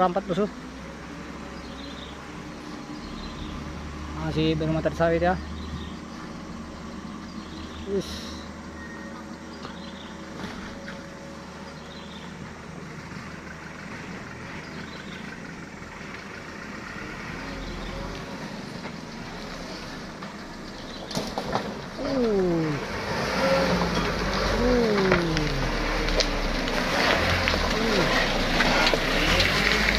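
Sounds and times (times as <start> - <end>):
diesel truck engine in mud: 0.0 - 29.9.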